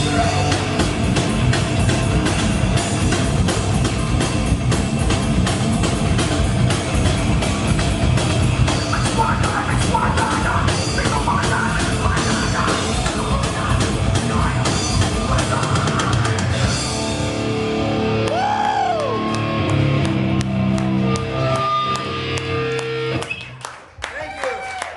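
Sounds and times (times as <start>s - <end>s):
pounding drum kit: 0.0s - 23.2s
distorted guitars: 0.0s - 23.6s
bass guitar: 0.0s - 23.8s.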